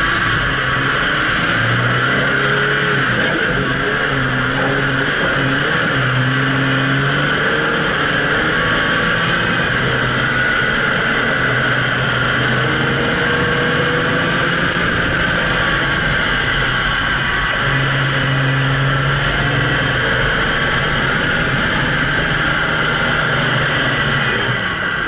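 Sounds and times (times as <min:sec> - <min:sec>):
car engine under load: 0:00.0 - 0:25.0
constant rush of noise: 0:00.0 - 0:25.0.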